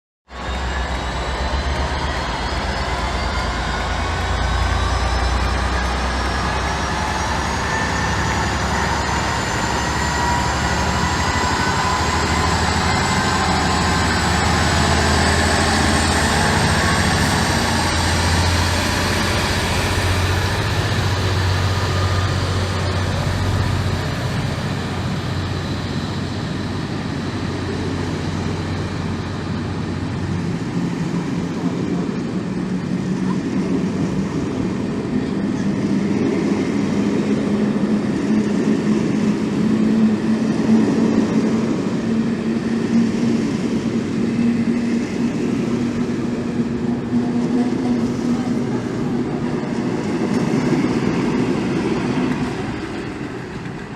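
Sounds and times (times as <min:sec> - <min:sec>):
rising whine: 0:00.3 - 0:53.9
train low drone: 0:00.3 - 0:53.9.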